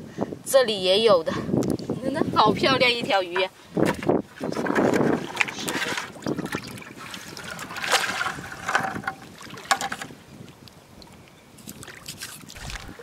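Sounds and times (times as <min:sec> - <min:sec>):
water splashing and sloshing: 0:01.6 - 0:13.0.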